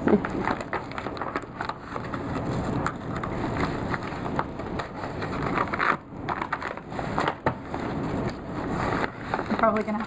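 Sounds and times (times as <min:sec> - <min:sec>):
paper mailer tearing and crinkling: 0:00.0 - 0:10.0.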